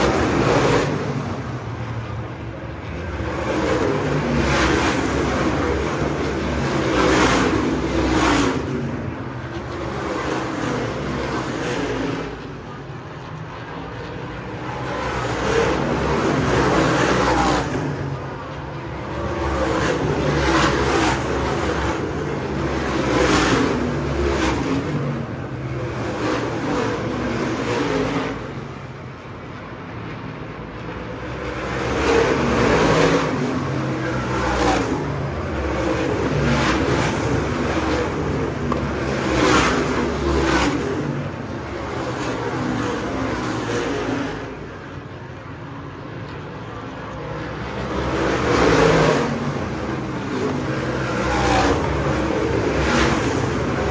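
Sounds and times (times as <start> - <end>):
race car engines passing: 0.0 - 53.9.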